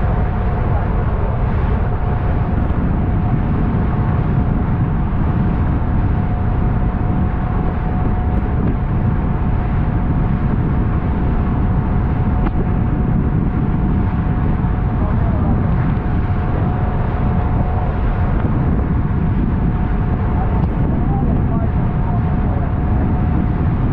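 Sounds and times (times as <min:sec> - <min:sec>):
boat through choppy waves: 0:00.0 - 0:23.9
outboard engine whining: 0:00.0 - 0:23.9
wind rumble on microphone: 0:00.0 - 0:23.9.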